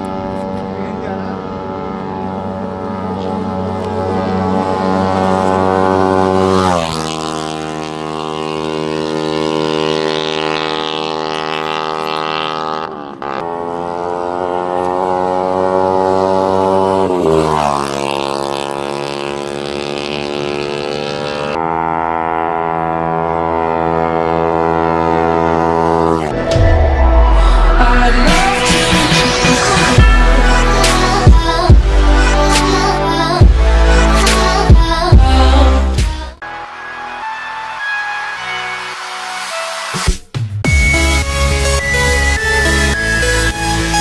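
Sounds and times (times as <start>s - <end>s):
motorcycle engine passing by: 0.0s - 36.4s.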